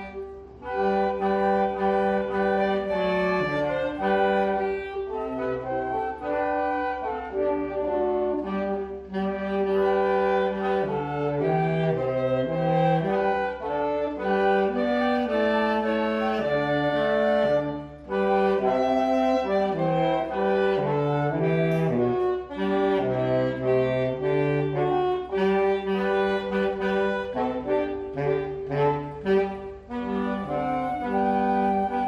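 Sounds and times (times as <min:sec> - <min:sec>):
small instrumental band playing: 0:00.0 - 0:32.0.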